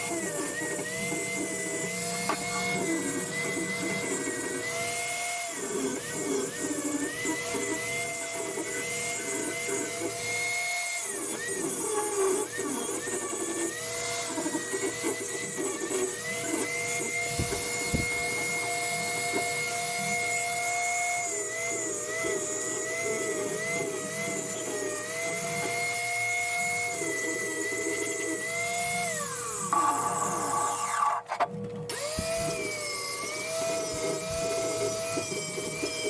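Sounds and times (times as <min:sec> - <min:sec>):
power tool motor whining: 0:00.0 - 0:36.0.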